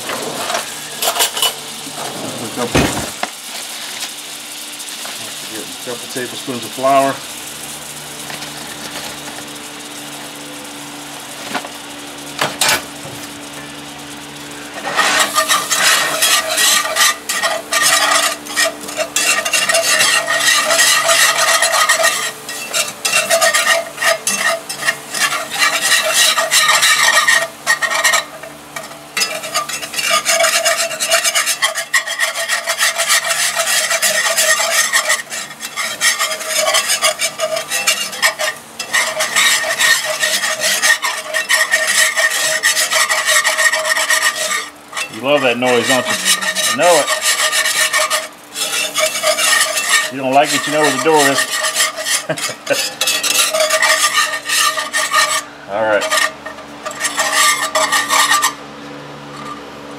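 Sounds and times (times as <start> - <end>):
wire whisk scraping a skillet: 0.0 - 2.7, 4.8 - 9.3, 13.6 - 58.6, 59.2 - 59.7.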